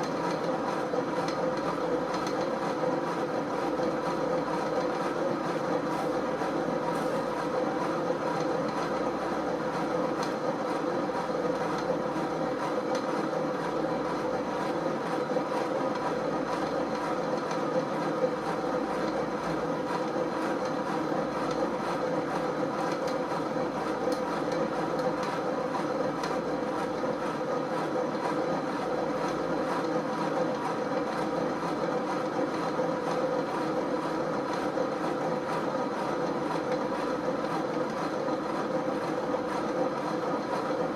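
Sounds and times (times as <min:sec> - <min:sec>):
exercise bike clicking: 0:00.0 - 0:40.9
exercise bike flywheel rumble: 0:00.0 - 0:40.9.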